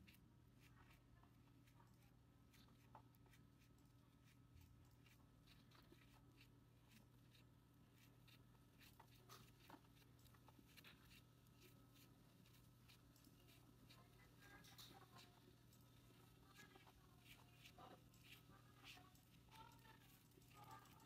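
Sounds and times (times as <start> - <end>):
scratchy rustling of yarn: 0.0 - 21.0.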